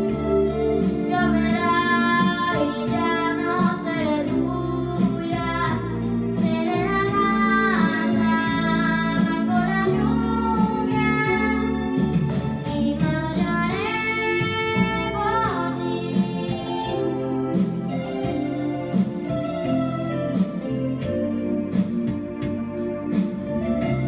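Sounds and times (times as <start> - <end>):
girl singing a ballad: 0.0 - 22.5.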